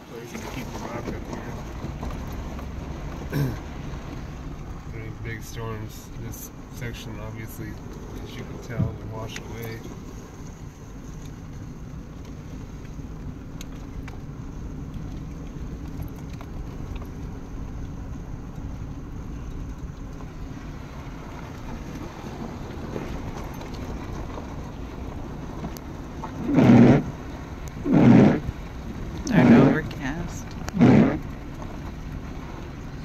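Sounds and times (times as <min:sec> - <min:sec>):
engine and tyres rumbling: 0:00.0 - 0:33.0.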